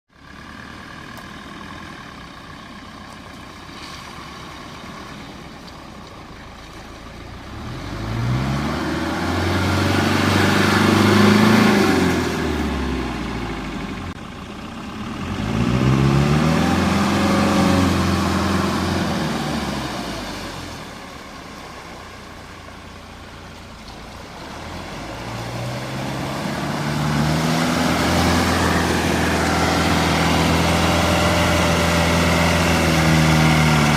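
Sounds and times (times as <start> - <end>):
engine accelerating: 6.7 - 33.9.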